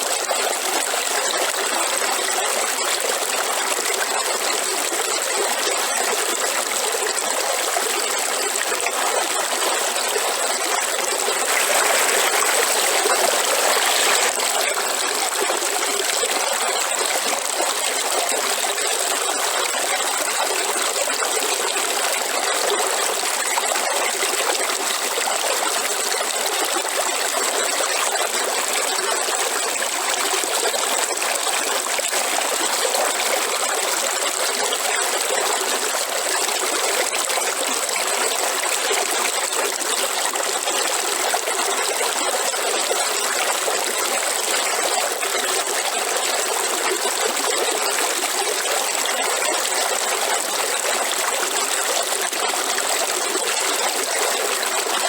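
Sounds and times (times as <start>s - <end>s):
waterfall: 0.0s - 55.0s.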